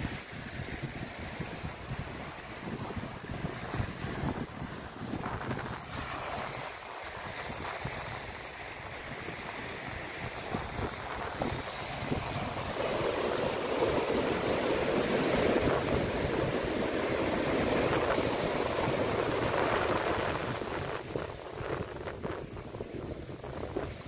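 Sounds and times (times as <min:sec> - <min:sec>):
surf washing in: 0:00.0 - 0:24.0.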